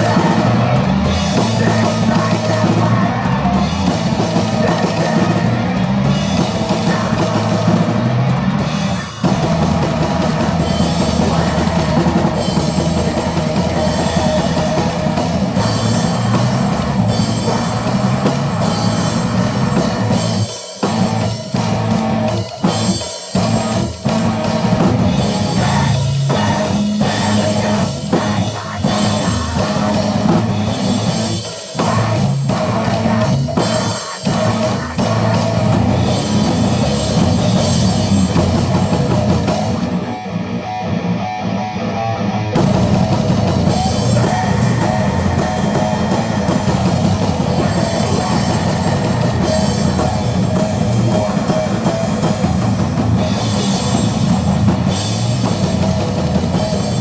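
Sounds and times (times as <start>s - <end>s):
heavy rock music: 0.0s - 57.0s.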